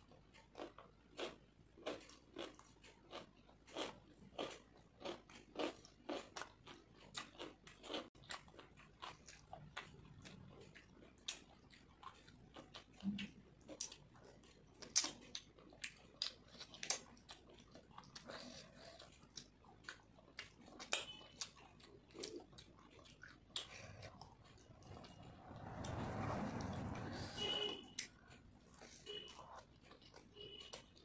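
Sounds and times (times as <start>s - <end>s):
chewing and lip-smacking: 0.0s - 31.0s.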